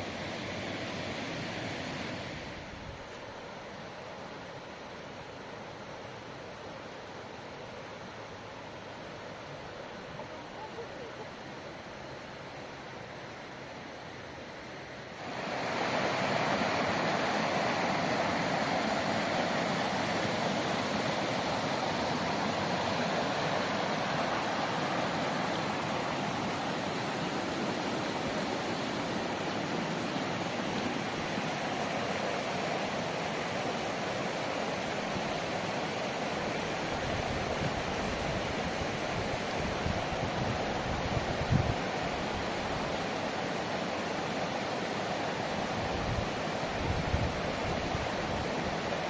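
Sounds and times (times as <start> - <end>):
river water rushing: 0.0 - 49.0.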